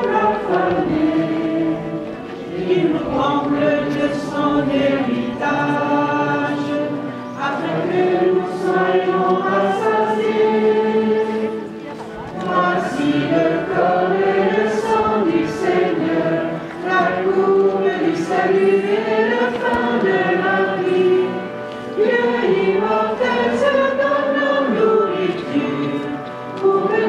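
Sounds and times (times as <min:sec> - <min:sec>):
choir singing a hymn: 0:00.0 - 0:27.0.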